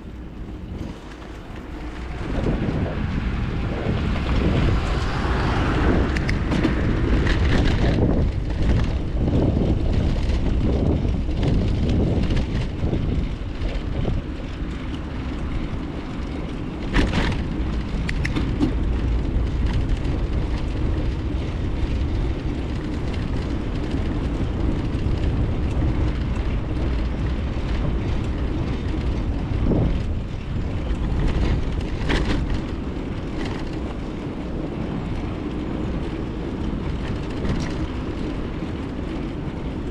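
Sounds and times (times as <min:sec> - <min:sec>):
bicycle tyre noise: 0:00.0 - 0:39.9
wind buffeting microphone: 0:00.0 - 0:39.9
bike knocks and rattles: 0:00.4 - 0:39.9.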